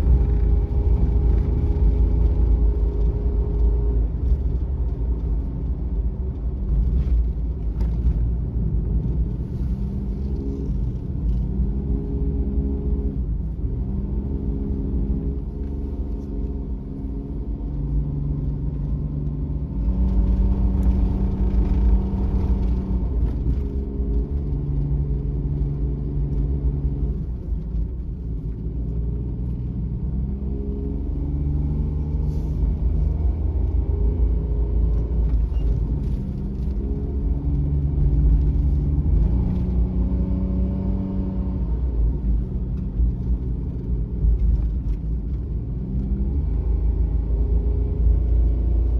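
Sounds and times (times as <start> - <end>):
road noise inside cabin: 0.0 - 48.9
van engine rumble: 0.0 - 48.9.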